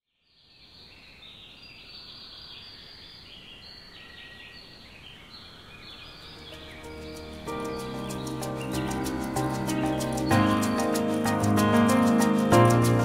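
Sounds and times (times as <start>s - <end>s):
birds chirping: 0.5s - 13.0s.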